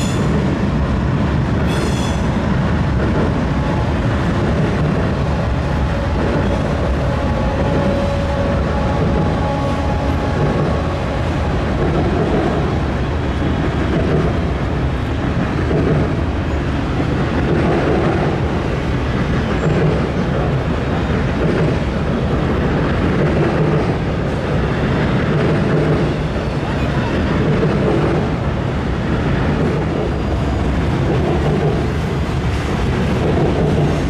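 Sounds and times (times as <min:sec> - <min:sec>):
train rolling across steel bridge: 0:00.0 - 0:34.0.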